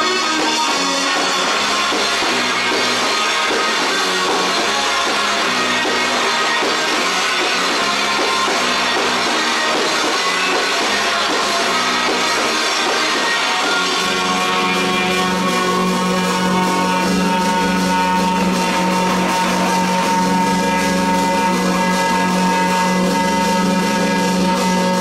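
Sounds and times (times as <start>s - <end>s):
rock band playing live: 0.0s - 25.0s.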